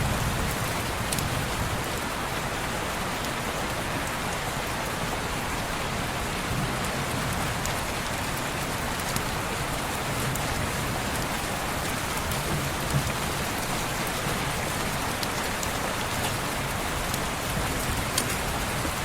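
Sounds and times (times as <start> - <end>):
rain pattering on a window: 0.0 - 19.0.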